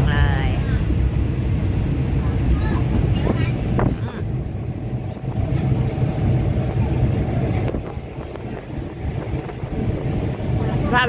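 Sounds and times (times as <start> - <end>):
train carriage rumble: 0.0 - 11.0
wind noise: 0.0 - 11.0.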